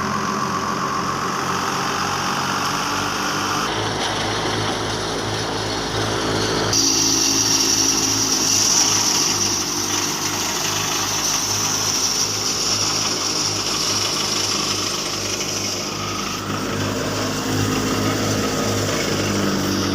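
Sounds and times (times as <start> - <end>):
thresher whirring hiss: 0.0 - 19.9
tractor engine pulse: 0.0 - 19.9.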